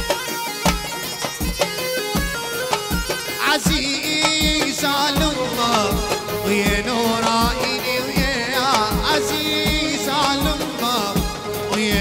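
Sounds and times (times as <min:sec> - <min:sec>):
folk music drum beat: 0:00.0 - 0:12.0.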